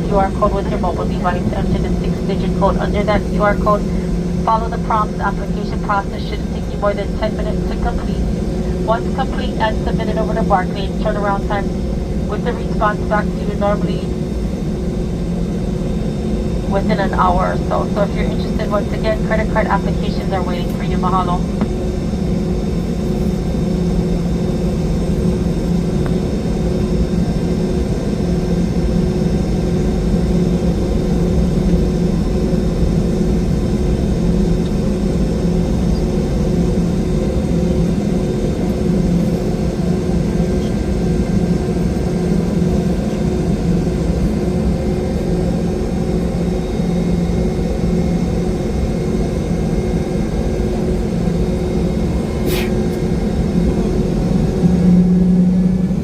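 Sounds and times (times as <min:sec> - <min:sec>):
aircraft cabin drone: 0:00.0 - 0:56.0.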